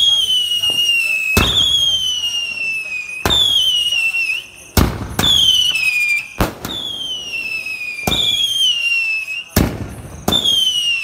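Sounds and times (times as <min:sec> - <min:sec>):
firework bangs: 0:00.0 - 0:11.0
firework whistles: 0:00.0 - 0:11.0.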